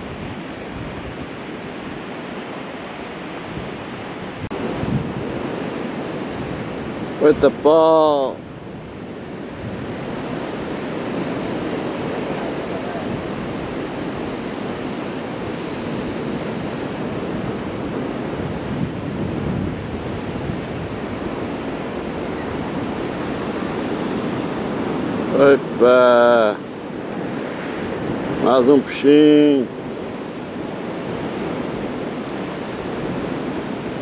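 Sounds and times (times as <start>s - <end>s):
surf washing against rocks: 0.0s - 34.0s
wind: 0.0s - 34.0s.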